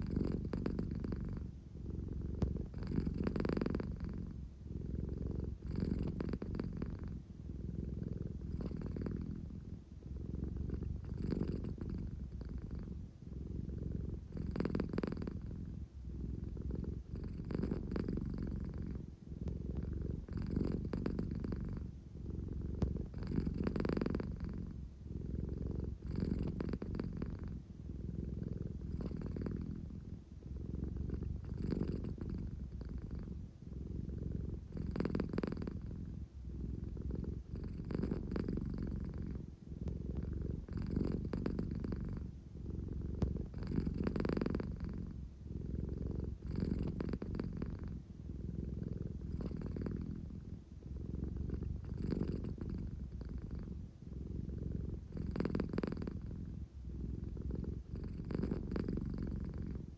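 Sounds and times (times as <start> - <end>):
cat purring: 0.0 - 59.9.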